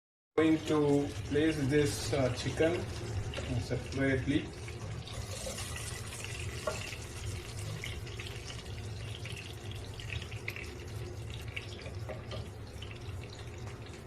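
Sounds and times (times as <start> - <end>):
chicken sizzling in a pan: 0.4 - 14.0.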